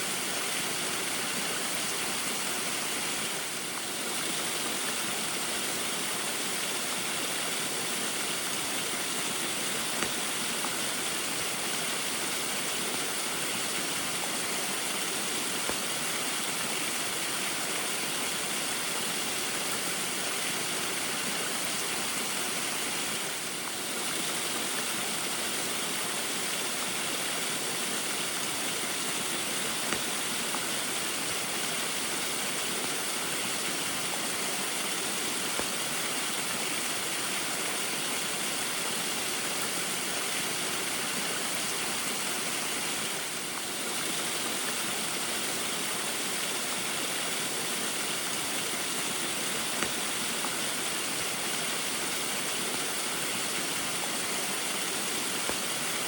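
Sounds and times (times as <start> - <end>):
small waterfall splashing: 0.0 - 56.0.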